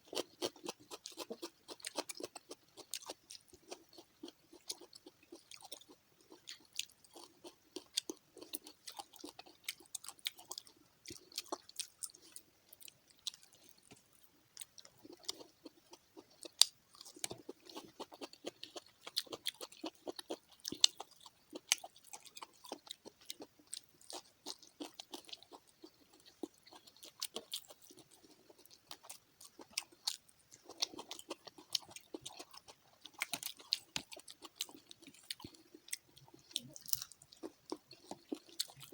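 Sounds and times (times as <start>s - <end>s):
fried fish being chewed: 0.0s - 38.9s.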